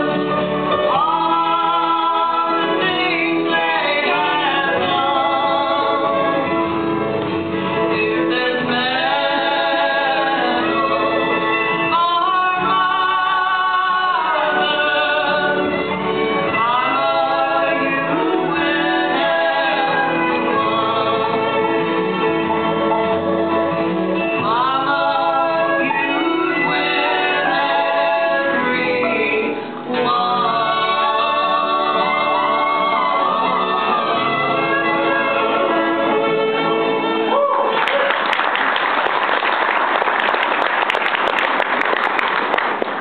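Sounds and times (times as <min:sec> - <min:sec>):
person singing with vibrato: 0:00.0 - 0:07.0, 0:07.7 - 0:22.2, 0:24.2 - 0:38.3
bluegrass band playing: 0:00.0 - 0:37.4
guitar: 0:00.0 - 0:38.0.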